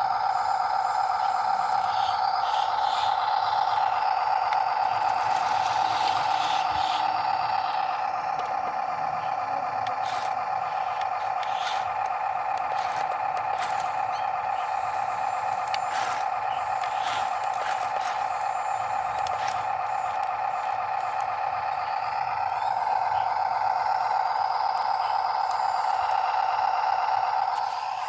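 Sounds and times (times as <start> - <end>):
small electric motor whining: 0.0 - 28.0.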